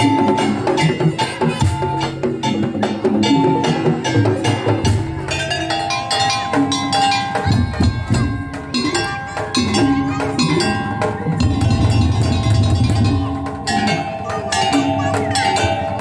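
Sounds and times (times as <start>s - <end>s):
held melodic notes: 0.0s - 16.0s
low drum: 0.0s - 16.0s
wooden and metal percussion: 0.0s - 16.0s.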